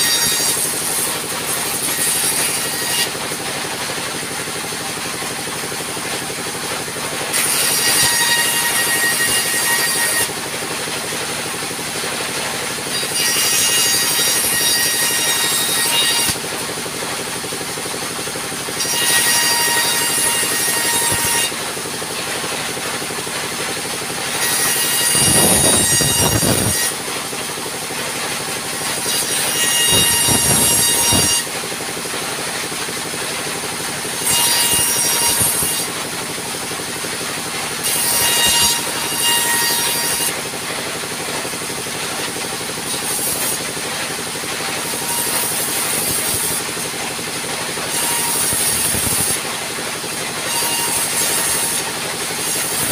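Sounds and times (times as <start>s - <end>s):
band saw cutting timber: 0.0s - 52.9s.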